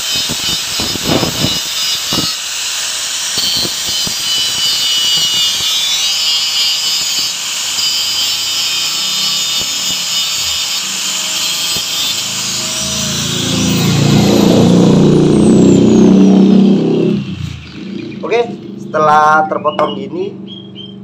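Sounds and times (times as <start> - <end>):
angle grinder grinding metal: 0.0 - 19.9.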